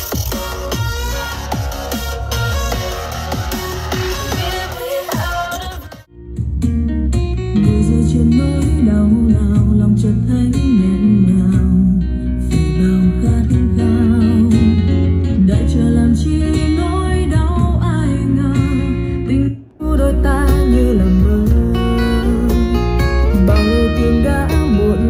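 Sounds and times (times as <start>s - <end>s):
song with guitar and voice: 0.0s - 25.0s.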